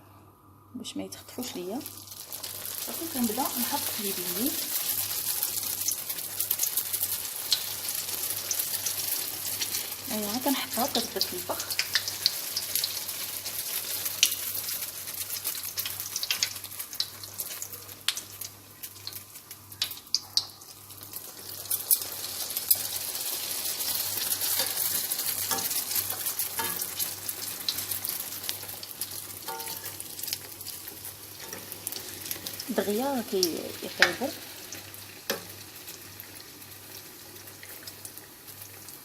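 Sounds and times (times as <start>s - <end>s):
dough frying in hot oil: 1.2s - 39.0s.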